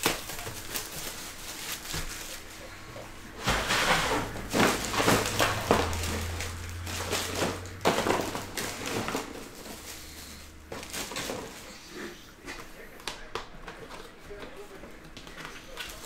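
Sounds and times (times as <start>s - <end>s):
wrapping crinkling and tearing: 0.0s - 12.9s
low steady hum: 0.0s - 15.4s.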